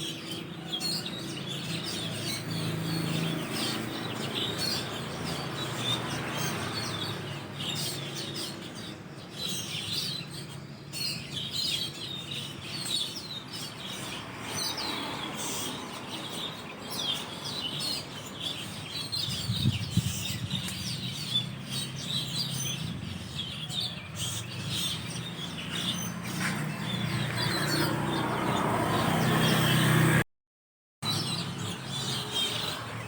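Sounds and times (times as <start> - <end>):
starlings chirping: 0.0 - 30.2, 31.0 - 33.0.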